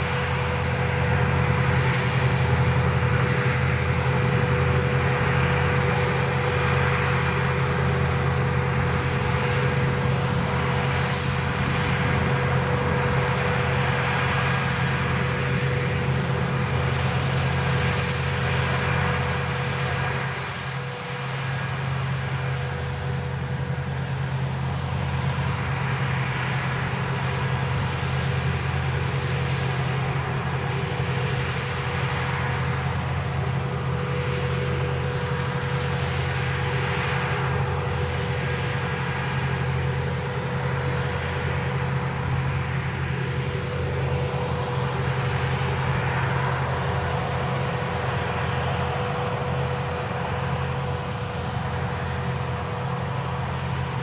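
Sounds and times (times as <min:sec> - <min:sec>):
combine harvesters droning: 0:00.0 - 0:54.0
crickets trilling: 0:00.0 - 0:54.0.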